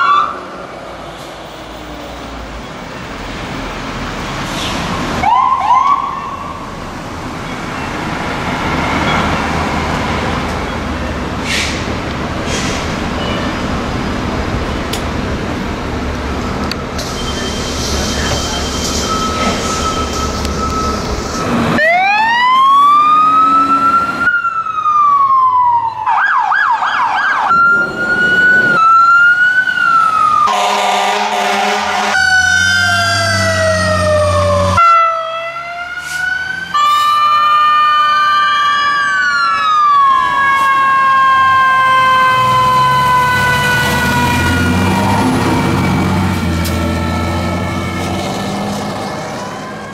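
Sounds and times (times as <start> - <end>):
fire engine sirens: 0.0 - 2.0, 2.7 - 49.9
truck engines rumbling: 0.0 - 49.9.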